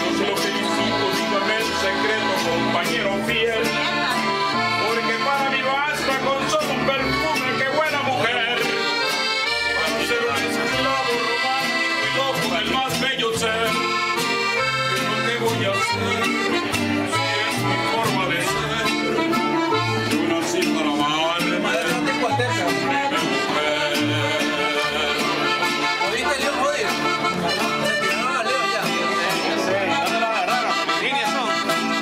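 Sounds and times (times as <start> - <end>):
accordion melody: 0.0 - 32.0
bass line: 0.0 - 32.0
guitar: 0.0 - 32.0.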